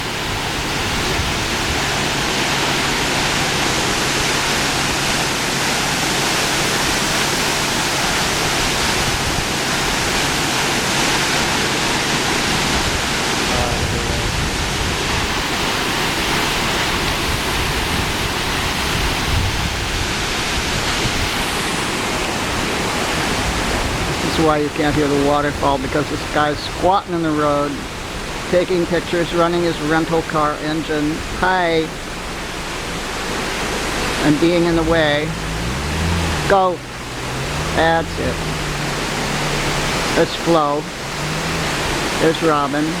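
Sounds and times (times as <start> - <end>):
car engine humming: 0.0 - 43.0
waterfall rushing: 0.0 - 43.0.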